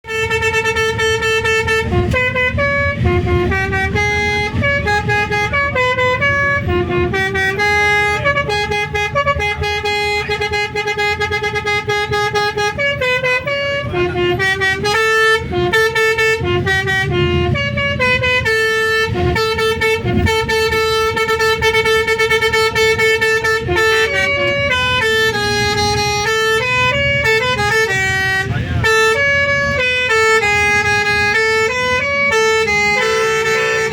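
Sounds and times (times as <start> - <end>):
multi-tone bus horn melody: 0.0 - 33.9
vehicle engine noise: 0.0 - 33.9.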